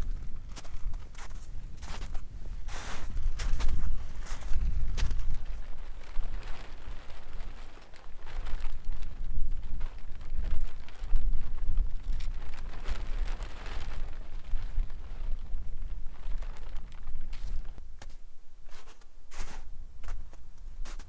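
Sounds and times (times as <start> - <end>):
wind buffeting microphone: 0.0 - 18.1
footsteps crunching in snow: 0.1 - 9.0, 12.0 - 21.0.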